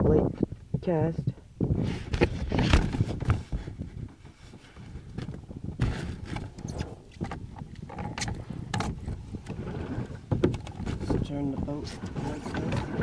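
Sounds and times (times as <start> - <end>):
knocks and rustling on plastic: 2.0 - 13.0.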